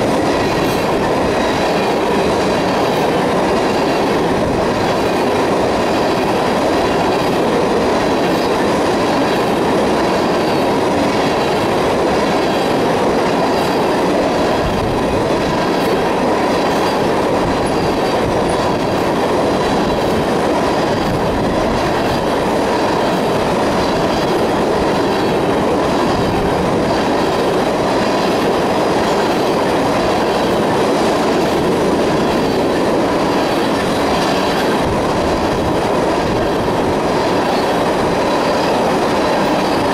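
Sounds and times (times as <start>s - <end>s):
freight train wheels rumbling and rattling: 0.0s - 39.9s.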